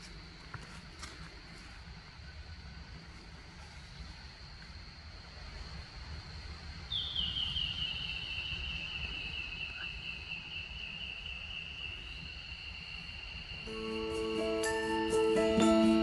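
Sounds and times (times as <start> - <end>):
insects droning high-pitched: 0.0 - 16.0
lower insect drone: 0.0 - 16.0.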